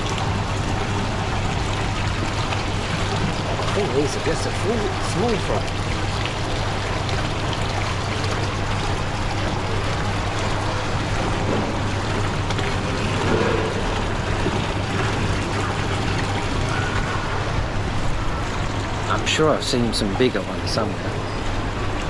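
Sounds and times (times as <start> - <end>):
water rushing and trickling: 0.0 - 22.0.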